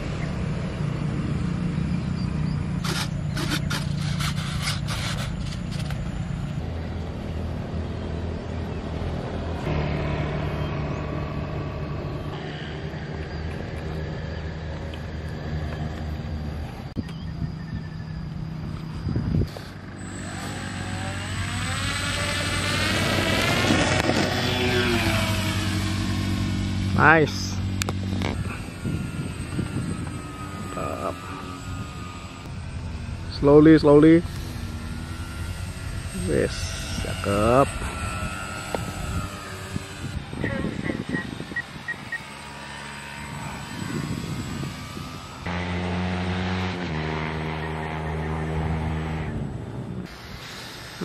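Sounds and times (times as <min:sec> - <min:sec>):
electric motors and propellers whining: 0:00.0 - 0:51.0.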